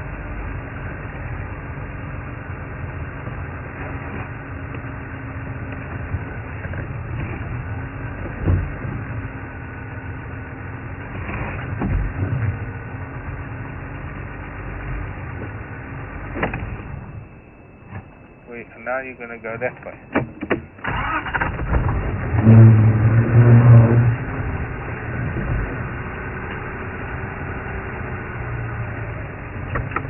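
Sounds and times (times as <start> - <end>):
vehicle engine low rumble: 0.0 - 30.0.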